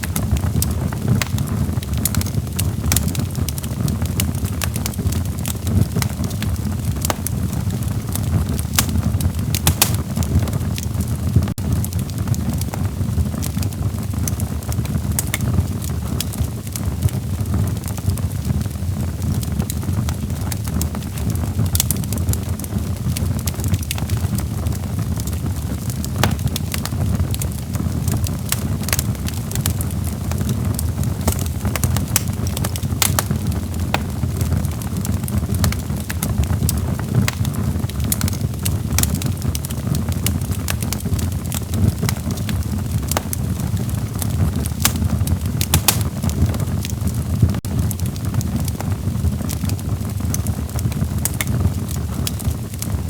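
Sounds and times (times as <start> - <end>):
fire crackling and popping: 0.0 - 53.0
fire rumbling: 0.0 - 53.0.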